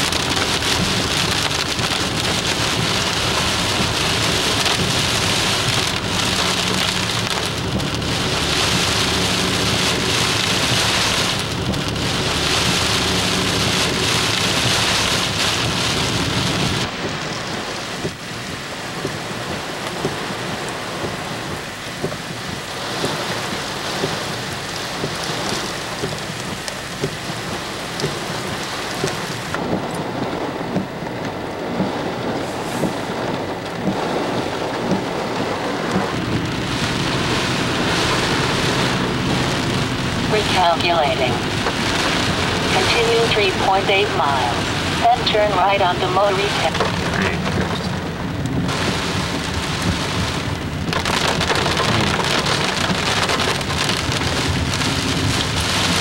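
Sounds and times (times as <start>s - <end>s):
car road noise: 0.0s - 56.0s
heavy rain on a car: 0.0s - 56.0s
raindrops ticking on a car: 0.0s - 56.0s.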